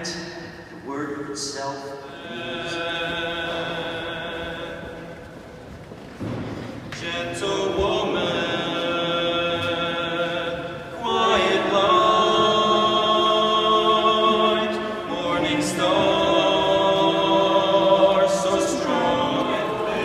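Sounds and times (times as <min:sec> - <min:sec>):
liturgical singing in echoing church: 0:00.0 - 0:20.0.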